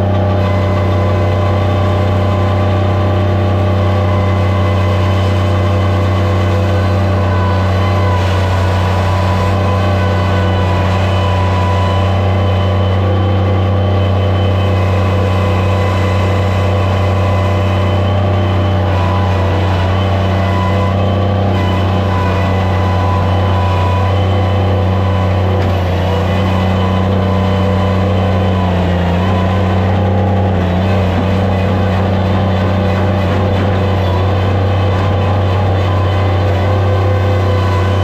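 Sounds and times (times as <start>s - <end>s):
loader engine running: 0.0s - 38.0s.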